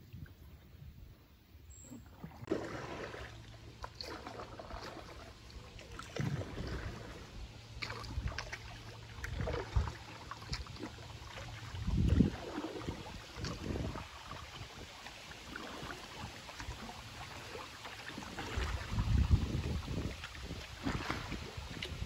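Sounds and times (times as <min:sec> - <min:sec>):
paddle splashing water: 0:01.8 - 0:22.0.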